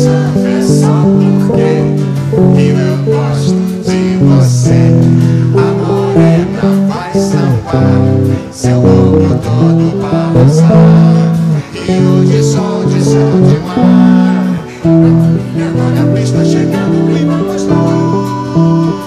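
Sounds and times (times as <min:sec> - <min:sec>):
guitar playing chords: 0:00.0 - 0:19.0.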